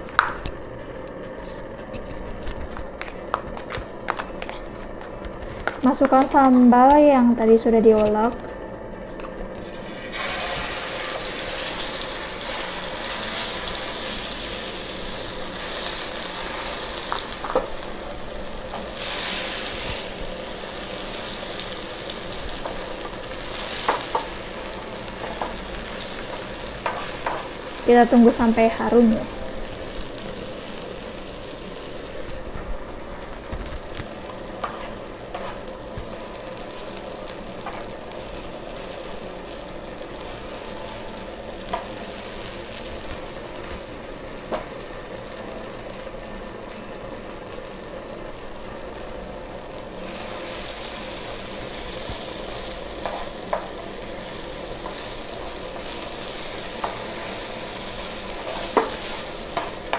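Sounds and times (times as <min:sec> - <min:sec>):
sambal sizzling in oil: 0:09.6 - 0:59.9.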